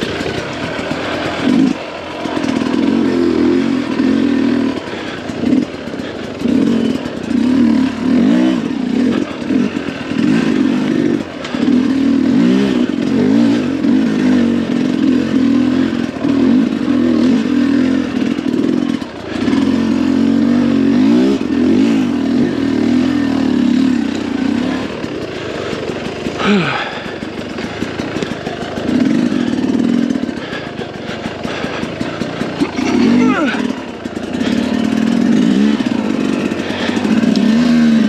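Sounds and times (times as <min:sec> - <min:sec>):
two-stroke engine revving: 0:00.0 - 0:38.0.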